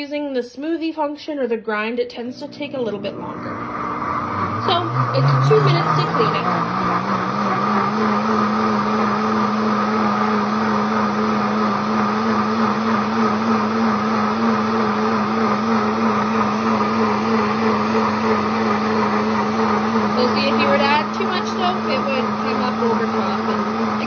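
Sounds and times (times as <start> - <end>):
blender motor humming: 2.4 - 24.0
water churning in blender jar: 3.2 - 24.0.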